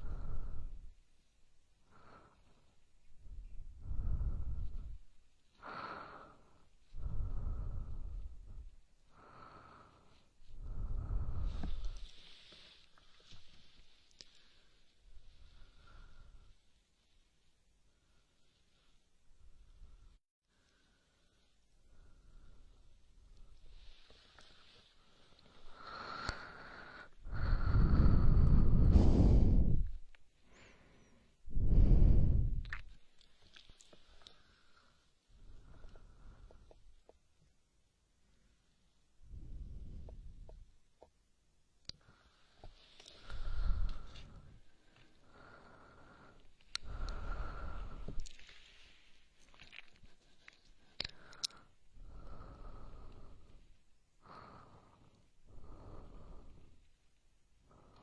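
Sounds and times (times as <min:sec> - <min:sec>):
close-miked breathing: 0:00.0 - 0:37.5, 0:38.2 - 0:41.1, 0:41.8 - 0:58.0.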